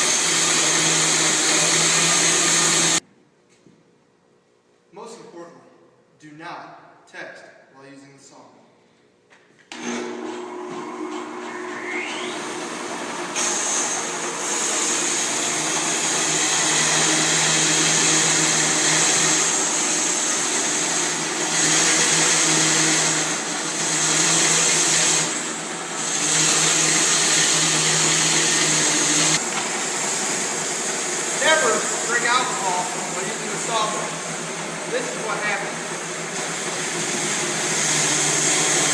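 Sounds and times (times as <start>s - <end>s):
bandsaw mill droning: 0.0s - 3.0s, 9.7s - 38.9s.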